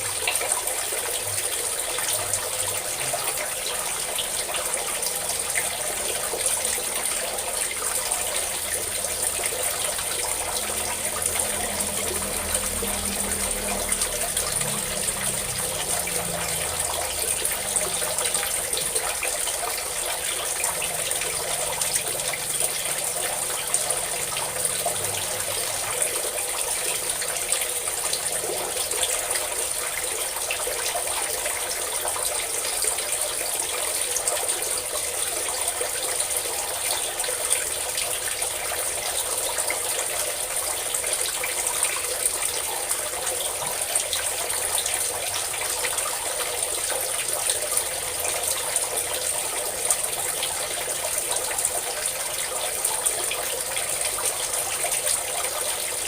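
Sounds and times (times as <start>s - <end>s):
water pouring and splashing: 0.0s - 56.0s.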